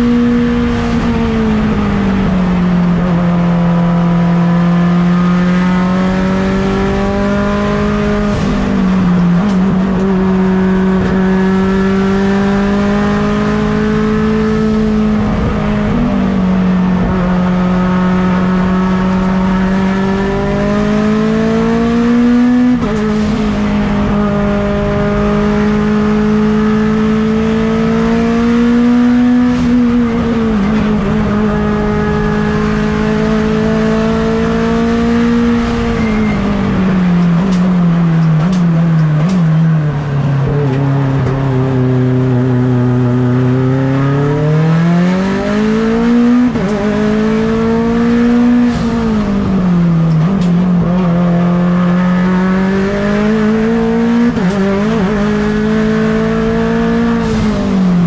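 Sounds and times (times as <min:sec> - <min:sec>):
racing car engine accelerating: 0:00.0 - 0:58.0.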